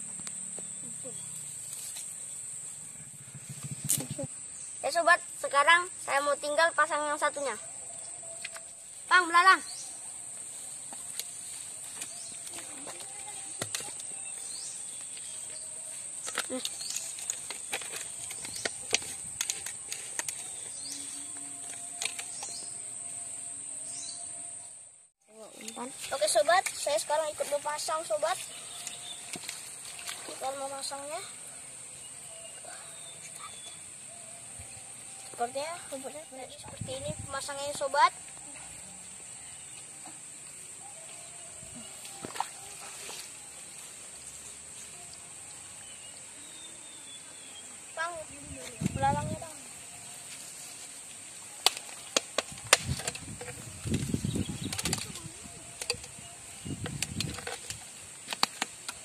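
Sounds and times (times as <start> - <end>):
high-pitched hiss: 0.0 - 59.0
insects trilling: 0.0 - 59.0.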